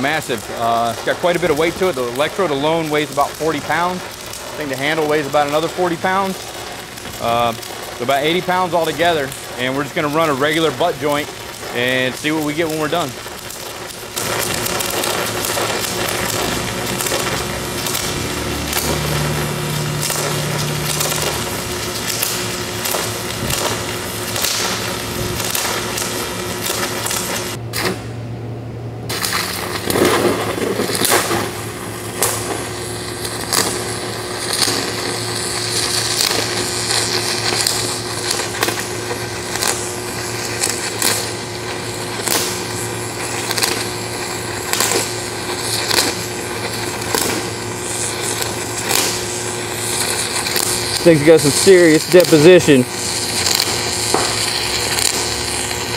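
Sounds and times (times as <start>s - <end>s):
welding arc crackling and sizzling: 0.0s - 28.1s, 29.1s - 55.9s.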